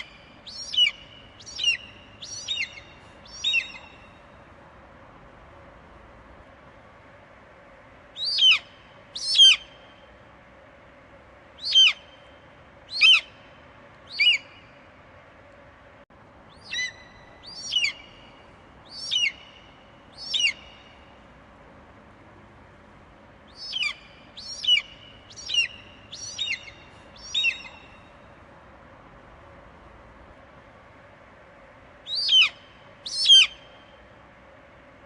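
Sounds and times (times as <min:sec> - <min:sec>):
faint steady hiss: 0:00.0 - 0:35.0.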